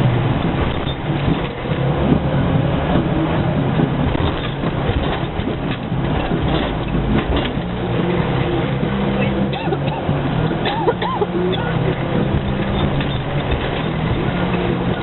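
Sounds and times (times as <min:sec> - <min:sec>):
off-road vehicle engine running: 0:00.0 - 0:15.0
knocks and rattles: 0:00.1 - 0:15.0.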